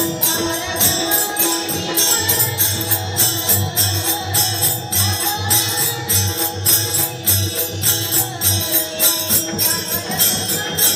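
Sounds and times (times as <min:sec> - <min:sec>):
drum beating steadily: 0:00.0 - 0:10.9
jingling percussion: 0:00.0 - 0:10.9.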